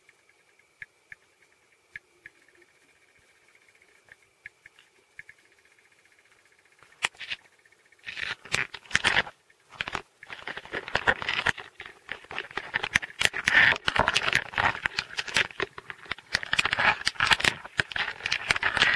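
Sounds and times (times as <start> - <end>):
crab claws clicking and scraping: 1.1 - 18.9.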